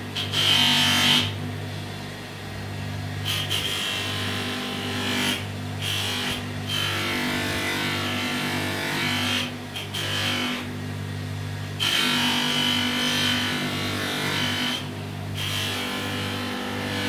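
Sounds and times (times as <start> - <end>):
bench grinder whining: 0.0 - 1.4, 3.2 - 10.7, 11.7 - 17.0.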